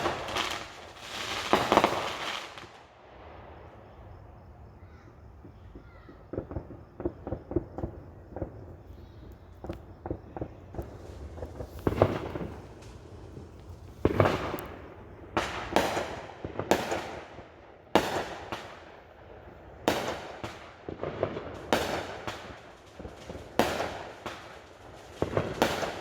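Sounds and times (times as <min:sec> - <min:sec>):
fireworks pops and crackles: 0:00.0 - 0:03.0, 0:05.2 - 0:26.0
fireworks bangs echoing: 0:00.0 - 0:03.7, 0:05.1 - 0:26.0.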